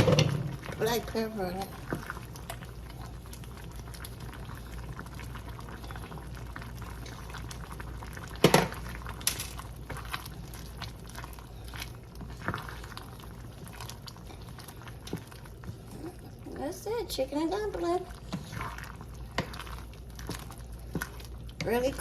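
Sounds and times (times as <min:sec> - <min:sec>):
pot bubbling on stove: 0:00.0 - 0:22.0.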